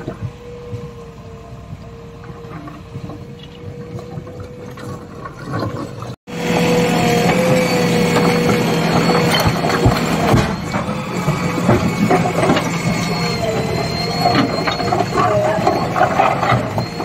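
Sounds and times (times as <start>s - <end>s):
constant whine: 0.0s - 17.0s
diesel engine running: 0.0s - 17.0s.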